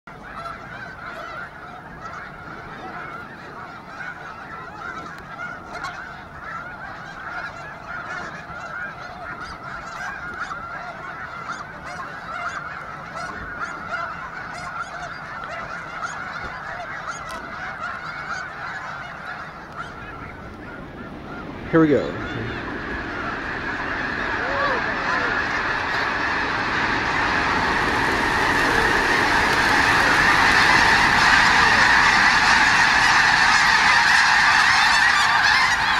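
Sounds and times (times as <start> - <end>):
geese honking: 0.1 - 35.9.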